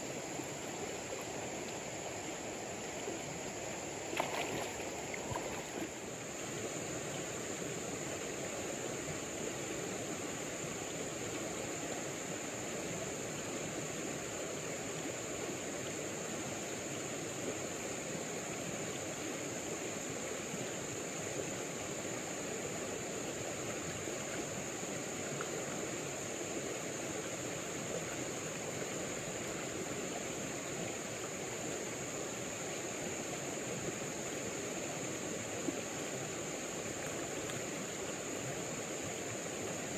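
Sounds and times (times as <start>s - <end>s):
river flowing over rocks: 0.0s - 15.9s, 21.8s - 39.9s.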